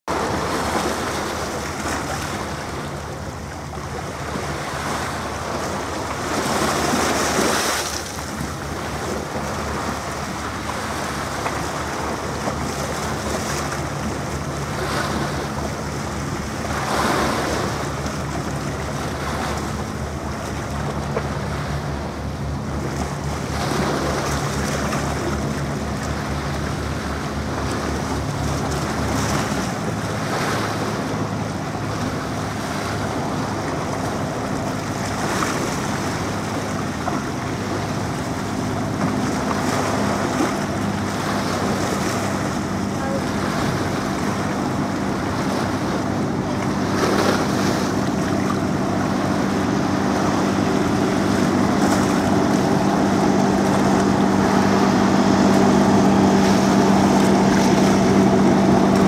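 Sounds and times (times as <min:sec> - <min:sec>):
sea washing: 0:00.0 - 0:59.0
hovercraft engine drone: 0:00.1 - 0:59.0.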